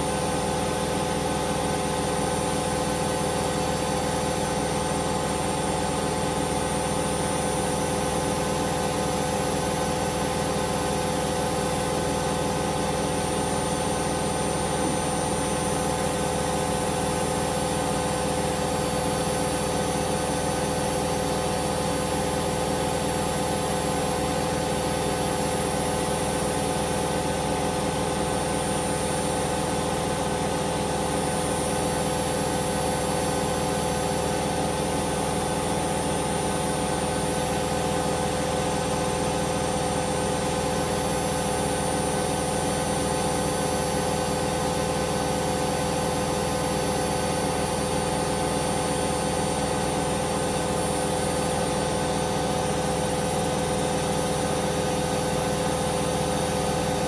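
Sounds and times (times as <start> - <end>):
washing machine motor humming: 0.0 - 57.0.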